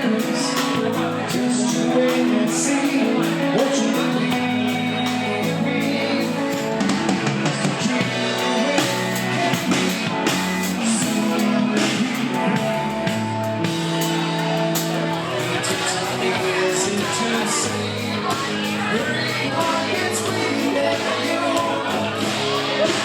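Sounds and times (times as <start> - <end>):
person singing: 0.0 - 23.0
soft rock band playing: 0.0 - 23.0.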